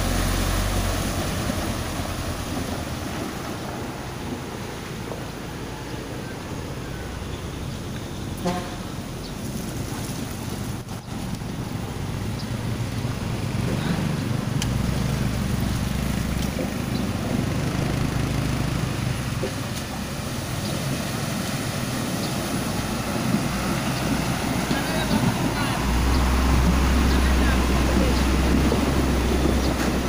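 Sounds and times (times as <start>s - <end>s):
diesel truck engine drone: 0.0s - 30.0s
water washing around tyres: 0.0s - 30.0s.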